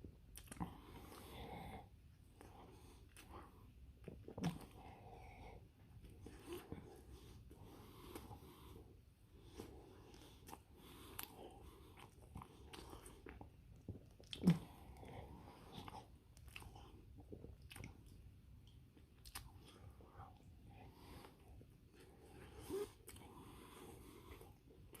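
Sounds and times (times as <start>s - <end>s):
person chewing with wet smacks: 0.0s - 8.8s, 9.4s - 25.0s.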